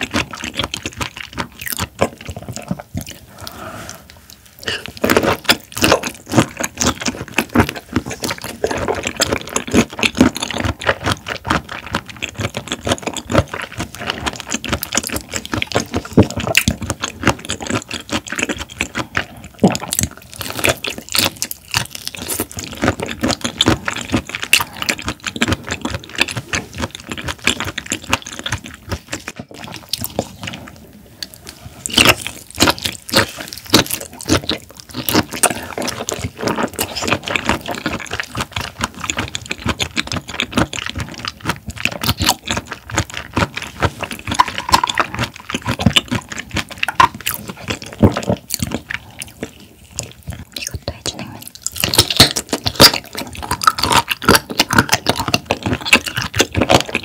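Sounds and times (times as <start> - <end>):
wet chewing: 0.0 - 57.0.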